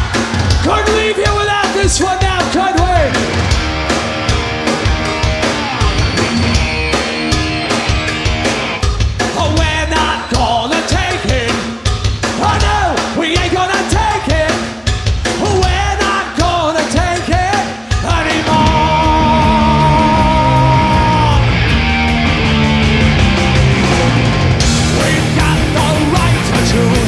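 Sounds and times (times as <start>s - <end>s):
loud rock music with vocals: 0.0s - 27.0s.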